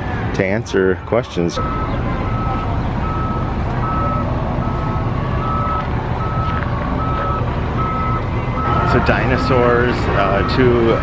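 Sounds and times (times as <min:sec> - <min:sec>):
back-up alarm beeping: 0:01.6 - 0:11.0.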